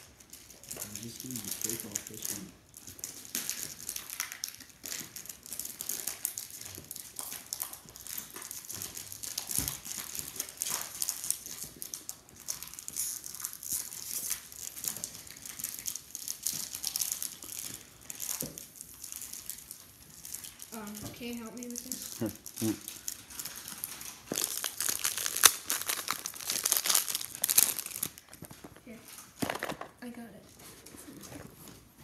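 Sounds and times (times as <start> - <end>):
plastic wrapping crinkling: 0.0 - 32.0.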